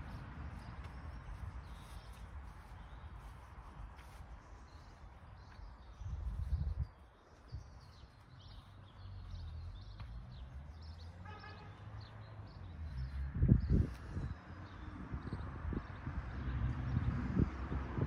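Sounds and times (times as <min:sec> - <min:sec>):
wind rumble on microphone: 0:00.0 - 0:11.1, 0:12.6 - 0:18.0
small birds chirping: 0:00.0 - 0:17.6.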